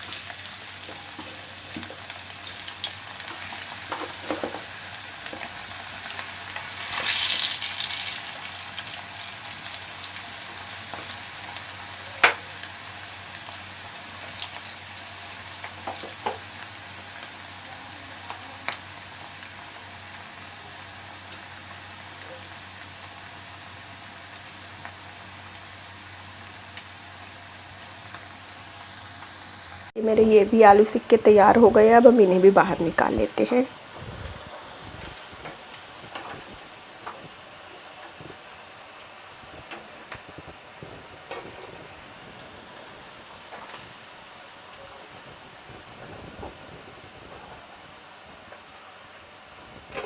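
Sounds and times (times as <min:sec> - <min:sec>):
potatoes deep-frying in oil: 0:00.0 - 0:50.0.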